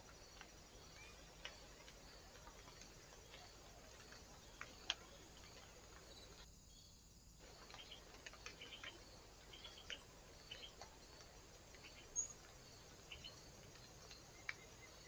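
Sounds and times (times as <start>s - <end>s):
low steady hiss: 0.0s - 15.0s
small birds chirping: 0.0s - 15.0s.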